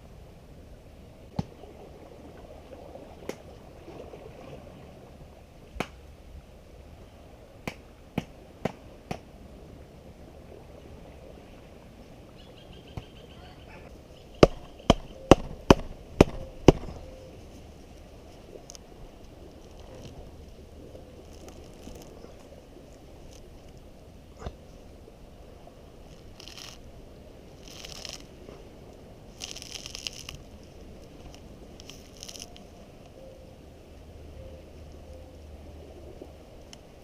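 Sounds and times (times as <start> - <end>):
low background hiss: 0.0 - 37.0.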